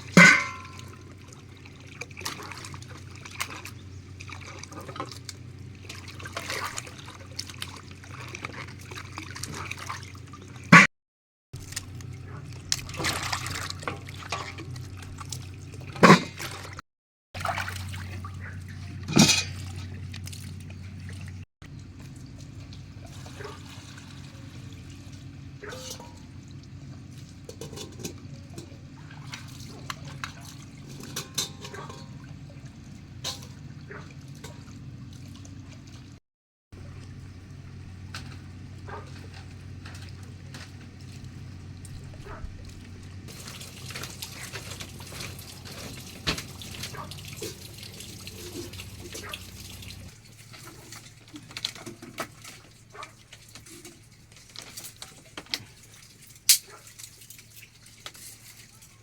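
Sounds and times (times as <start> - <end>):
water trickling and dripping: 0.0 - 10.8, 17.4 - 36.2, 36.8 - 59.0.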